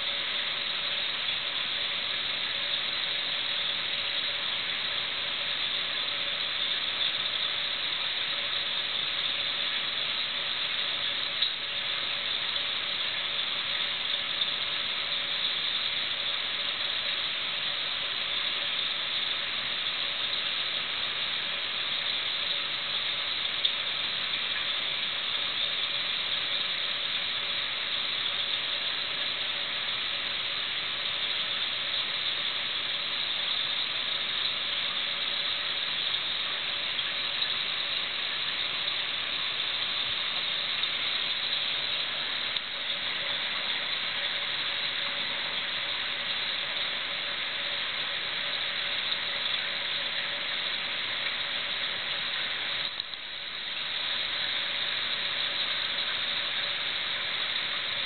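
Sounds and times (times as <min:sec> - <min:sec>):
aquarium water circulation hiss: 0:00.0 - 0:58.0
faint pump hum: 0:00.0 - 0:58.0.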